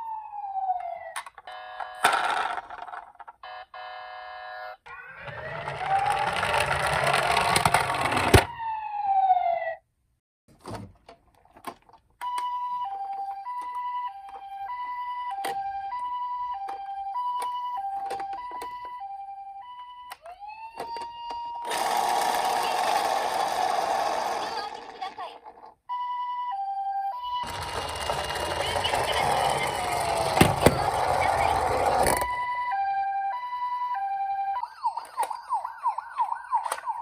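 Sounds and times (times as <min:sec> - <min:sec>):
two-tone hi-lo siren: 0:00.0 - 0:01.9, 0:03.4 - 0:07.2, 0:08.4 - 0:09.8, 0:12.3 - 0:24.2, 0:25.9 - 0:37.0
toy siren wailing: 0:03.5 - 0:09.8, 0:12.2 - 0:37.0.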